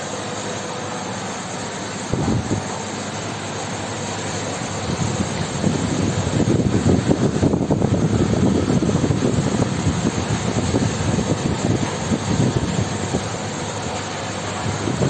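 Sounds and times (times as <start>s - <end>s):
condenser fan rushing air: 0.0s - 15.0s.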